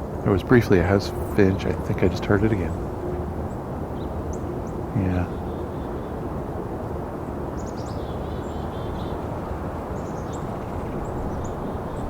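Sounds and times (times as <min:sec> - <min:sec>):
distant highway traffic rumble: 0:00.0 - 0:12.0
small songbirds chirping: 0:00.0 - 0:12.0.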